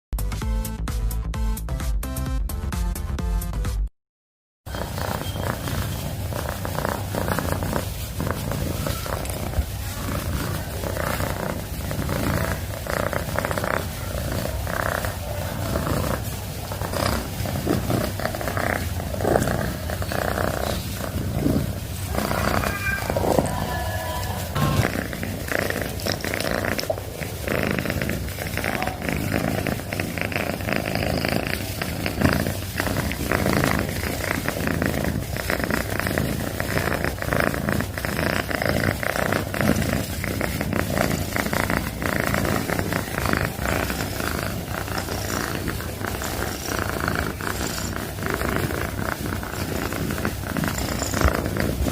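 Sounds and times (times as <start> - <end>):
cat purring: 4.7 - 51.9.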